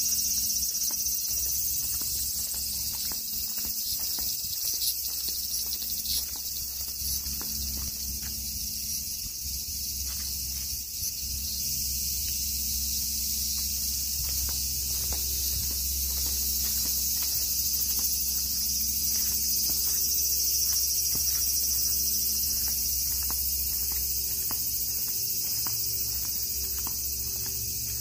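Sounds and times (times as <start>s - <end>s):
footsteps on paving: 0.0s - 11.4s, 13.0s - 28.0s
insects chirring: 0.0s - 28.0s.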